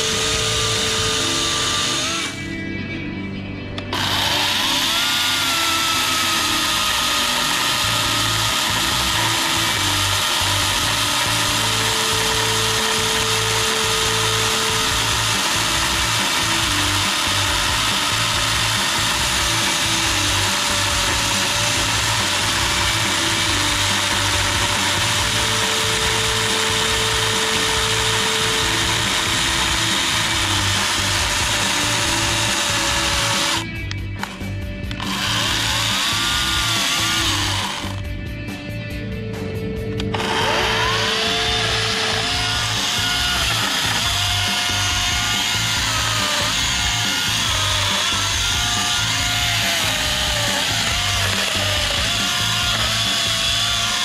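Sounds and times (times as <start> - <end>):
battery chainsaw cutting wood: 0.0 - 2.6, 3.8 - 38.1, 40.0 - 54.0.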